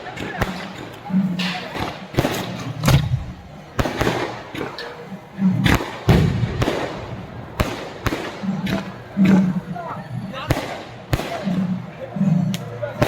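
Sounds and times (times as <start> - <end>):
fireworks bangs: 0.0 - 5.0, 5.6 - 9.7, 10.5 - 11.9
fireworks crackling: 0.0 - 13.0.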